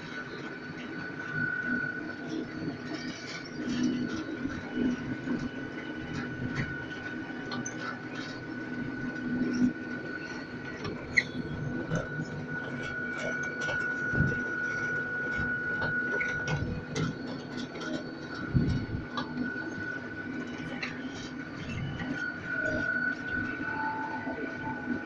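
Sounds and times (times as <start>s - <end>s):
high whine: 0.0s - 25.0s
train rolling on track: 0.0s - 25.0s.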